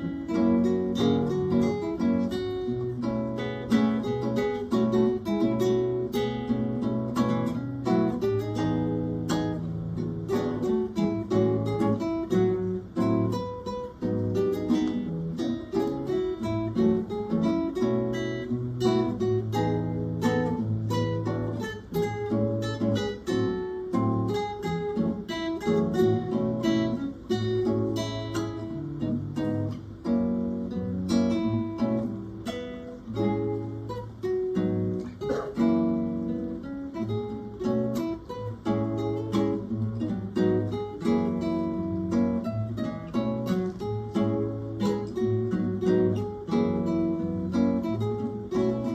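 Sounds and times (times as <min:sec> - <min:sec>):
acoustic guitars playing: 0:00.0 - 0:48.9.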